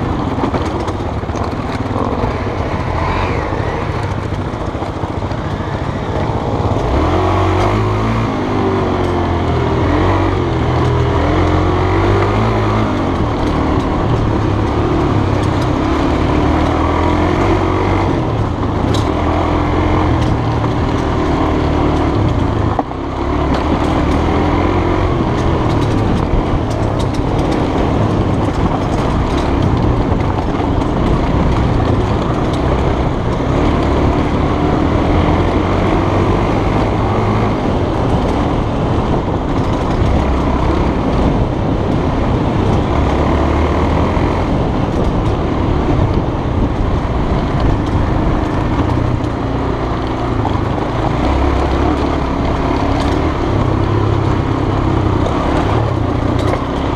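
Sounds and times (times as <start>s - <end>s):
motorbike engine revving: 0.0s - 56.9s
wind rush on microphone: 0.0s - 56.9s.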